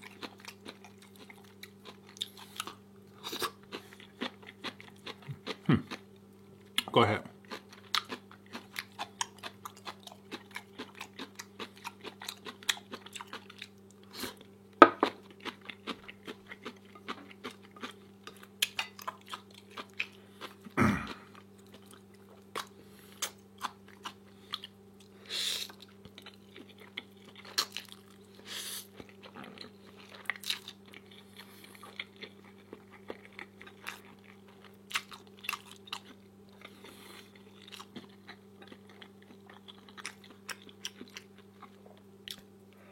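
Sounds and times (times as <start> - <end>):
person chewing crunchy food: 0.0 - 42.8.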